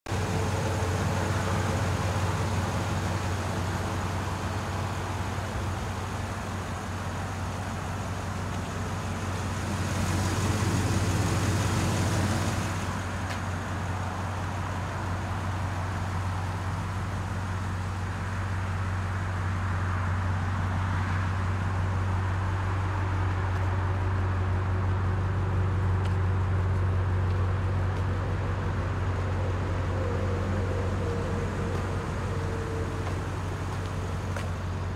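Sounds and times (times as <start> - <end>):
pickup engine idling: 0.1 - 34.9.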